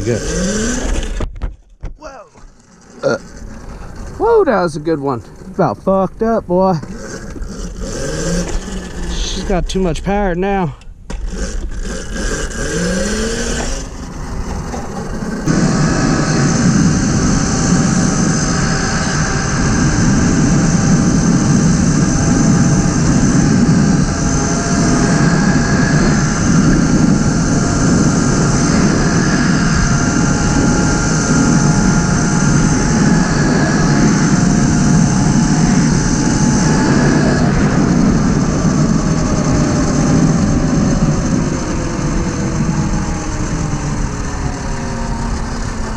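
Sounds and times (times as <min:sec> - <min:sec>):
electric motor whine: 0:00.0 - 0:01.3, 0:06.6 - 0:09.8, 0:11.1 - 0:45.9
wind and tyre rush: 0:00.0 - 0:45.9.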